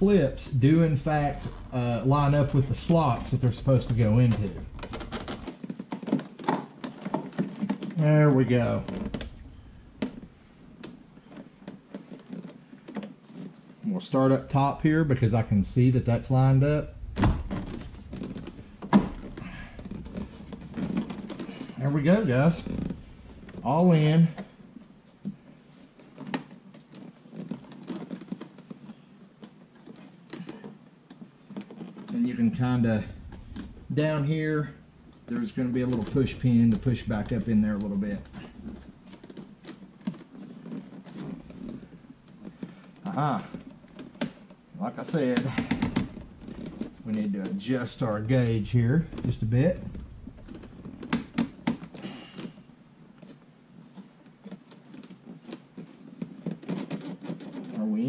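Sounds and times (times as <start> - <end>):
rustling: 0.0 - 58.0.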